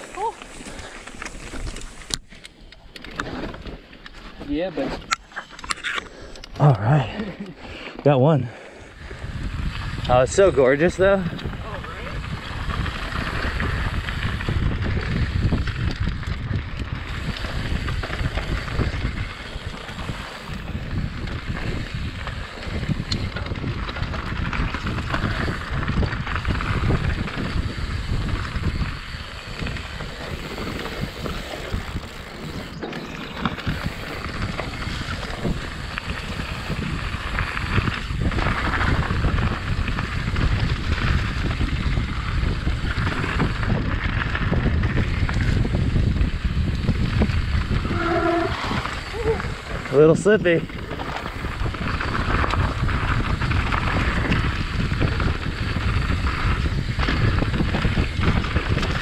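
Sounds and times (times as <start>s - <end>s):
mountain bike rolling on dirt: 0.0s - 59.0s
wind buffeting microphone: 8.4s - 59.0s.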